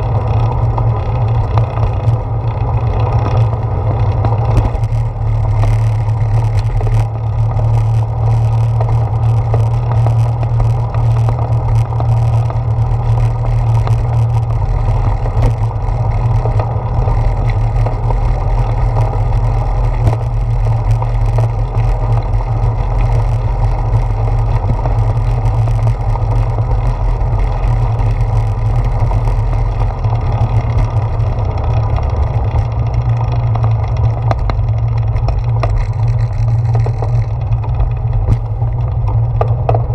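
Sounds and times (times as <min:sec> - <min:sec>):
bicycle tyres rolling on boardwalk: 0:00.0 - 0:39.9
faint ticks: 0:00.4 - 0:39.9.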